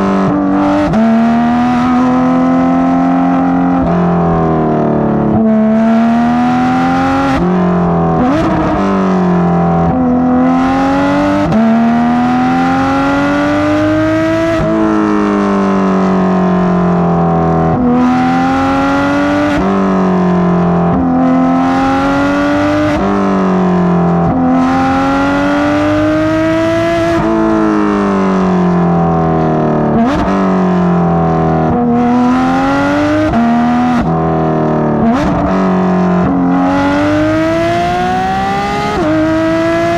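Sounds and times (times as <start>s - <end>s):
sports car exhaust revving through gears: 0.0s - 39.9s.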